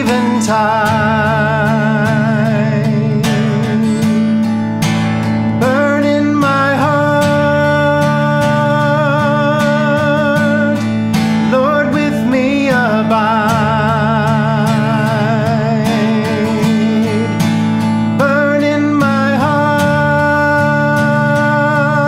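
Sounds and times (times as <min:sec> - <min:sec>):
man singing: 0:00.0 - 0:04.6, 0:05.2 - 0:22.0
strummed acoustic guitar: 0:00.0 - 0:22.0.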